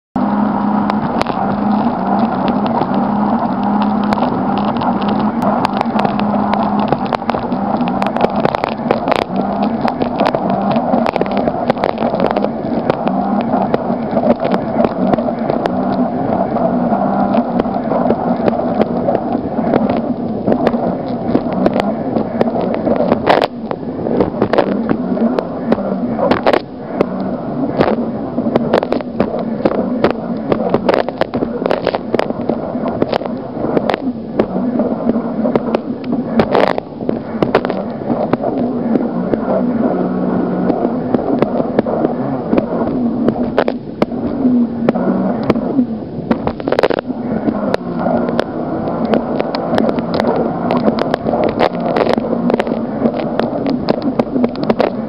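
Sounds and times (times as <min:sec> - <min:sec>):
rushing wind and water: 0:00.1 - 0:55.0
watercraft engine drone: 0:00.1 - 0:55.0.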